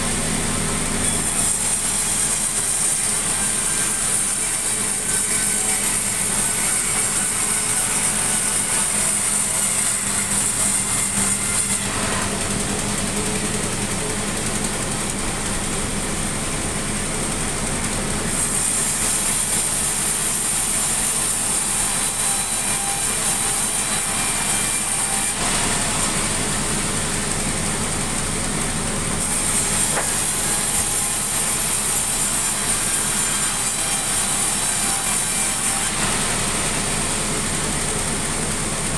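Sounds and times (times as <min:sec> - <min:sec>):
sawmill machinery sawing log: 0:00.0 - 0:38.9.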